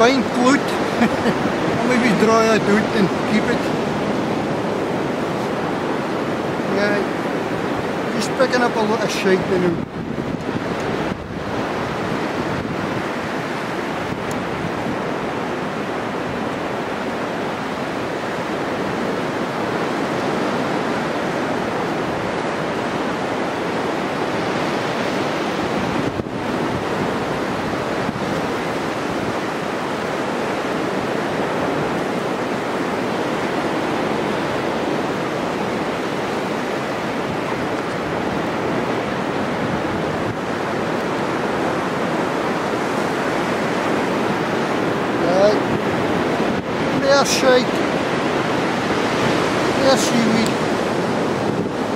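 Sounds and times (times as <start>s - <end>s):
surf breaking on a beach: 0.0s - 51.9s
wind on the microphone: 0.0s - 51.9s.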